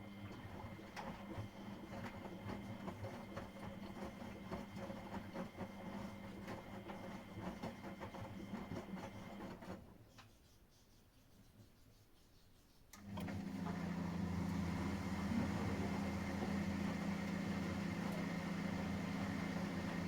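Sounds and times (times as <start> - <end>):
washing machine running: 0.0 - 9.8, 13.0 - 20.0.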